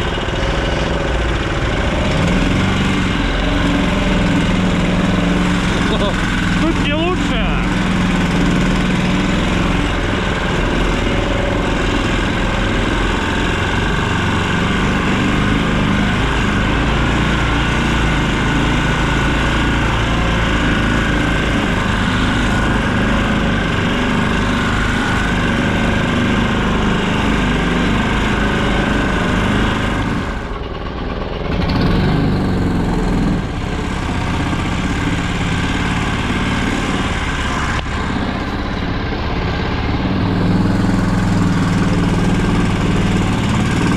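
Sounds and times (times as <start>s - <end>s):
small vehicle engine running: 0.0s - 43.9s.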